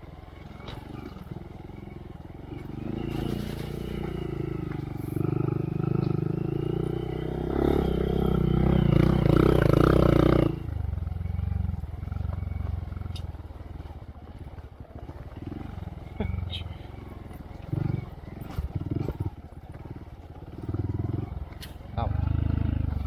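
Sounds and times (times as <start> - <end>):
motorcycle engine under throttle: 0.0 - 23.0.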